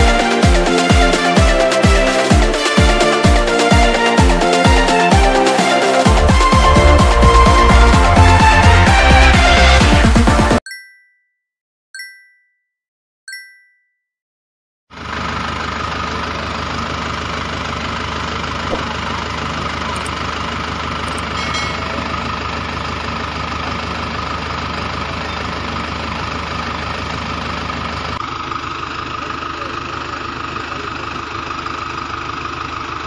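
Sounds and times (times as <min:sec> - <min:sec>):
engine idling: 0:00.0 - 0:10.5, 0:14.9 - 0:33.0.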